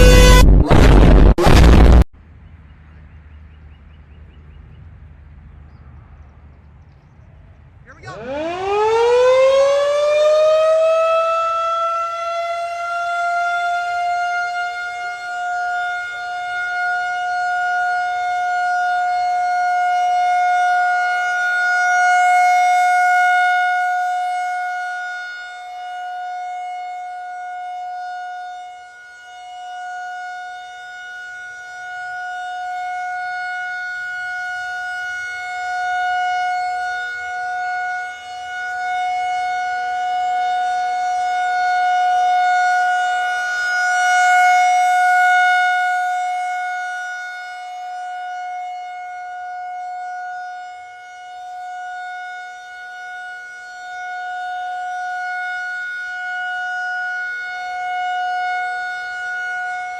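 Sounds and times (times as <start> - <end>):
warning siren steady tone: 0.0 - 2.1, 7.9 - 59.9.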